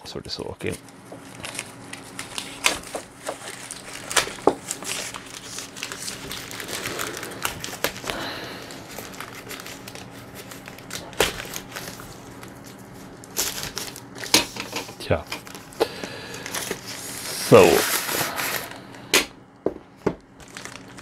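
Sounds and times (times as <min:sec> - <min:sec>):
plastic packaging crinkling and tearing: 0:00.6 - 0:19.0, 0:20.2 - 0:21.0.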